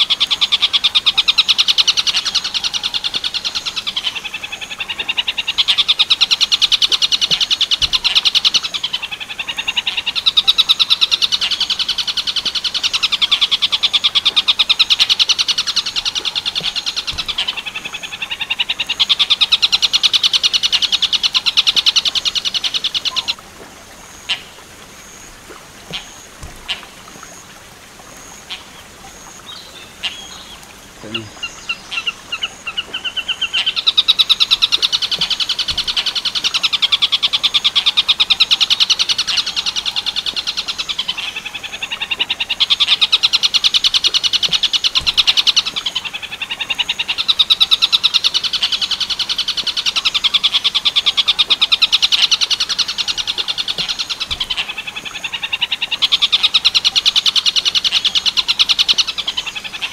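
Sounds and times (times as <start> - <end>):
faint chirps and clicks: 0.1 - 59.9.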